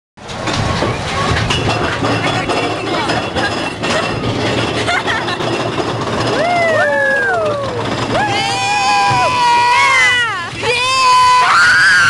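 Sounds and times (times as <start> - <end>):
clinks and rattles: 0.2 - 11.0
ride car rumbling along track: 0.2 - 12.0.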